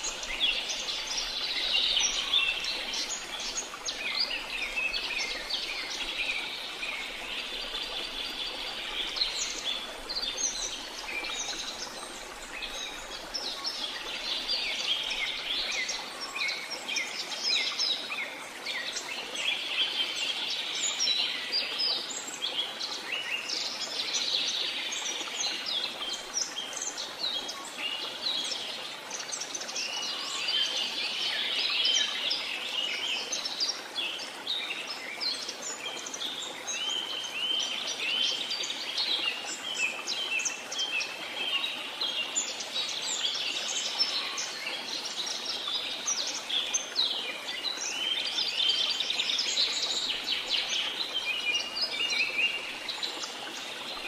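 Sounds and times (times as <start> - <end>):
flowing water: 0.0 - 54.0.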